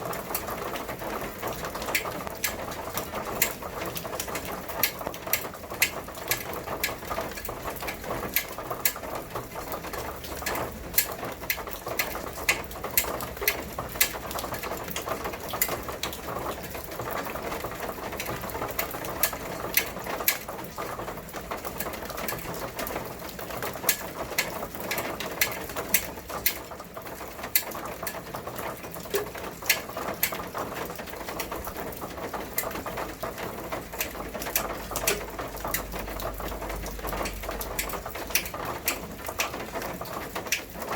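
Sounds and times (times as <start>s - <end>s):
raindrops tapping hard surface: 0.0s - 40.9s
steady rain: 0.0s - 40.9s.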